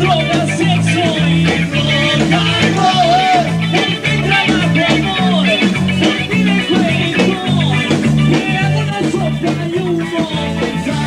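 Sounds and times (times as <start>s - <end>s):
bass line: 0.0s - 11.0s
electric guitar: 0.0s - 11.0s
man singing: 0.0s - 11.0s.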